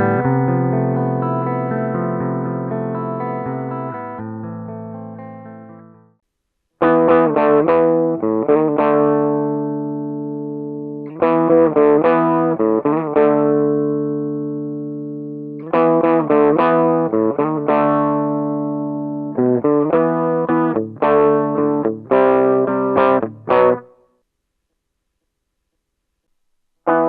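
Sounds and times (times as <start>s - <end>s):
electric guitar strummed chords: 0.0s - 6.0s, 6.8s - 23.9s.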